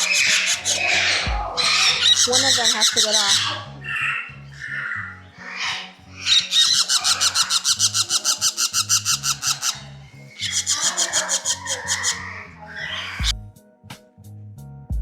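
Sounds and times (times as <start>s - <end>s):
young parrots squawking: 0.0s - 13.3s.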